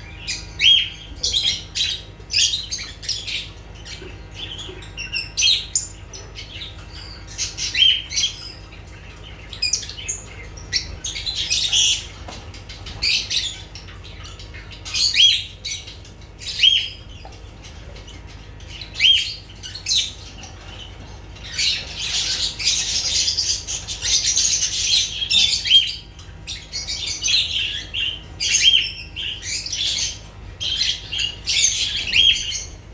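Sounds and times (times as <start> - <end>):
lovebirds chirping and screeching: 0.0 - 32.9.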